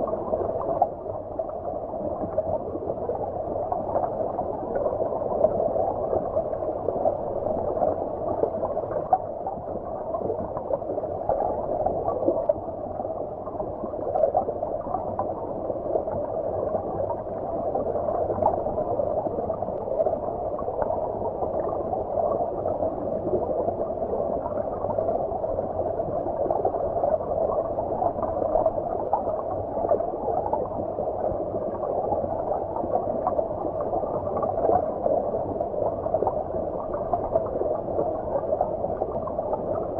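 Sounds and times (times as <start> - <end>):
underwater stream gurgling: 0.0 - 39.9.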